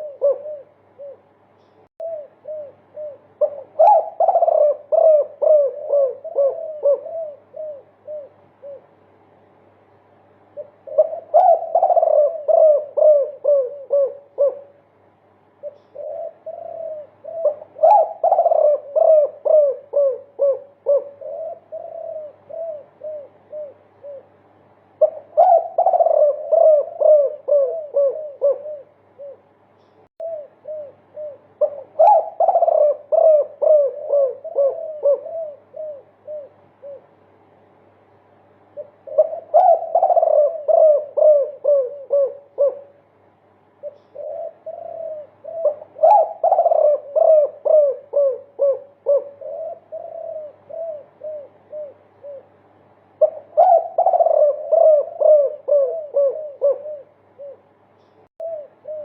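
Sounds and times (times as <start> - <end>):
doves cooing: 0.0 - 9.2, 10.4 - 37.8, 38.5 - 59.0.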